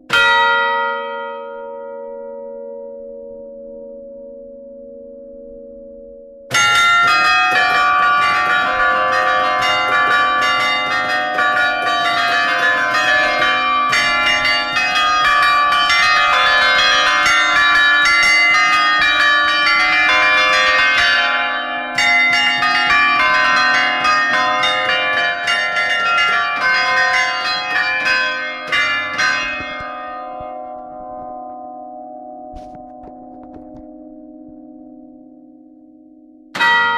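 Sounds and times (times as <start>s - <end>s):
church bells pealing: 0.0s - 36.9s
low hum from bells: 0.0s - 36.9s.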